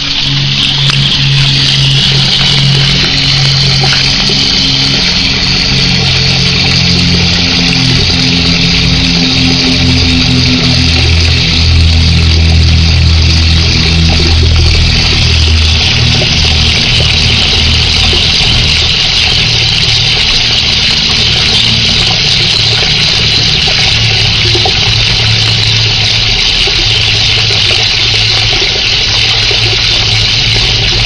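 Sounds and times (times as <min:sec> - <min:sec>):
water pump humming: 0:00.0 - 0:31.0.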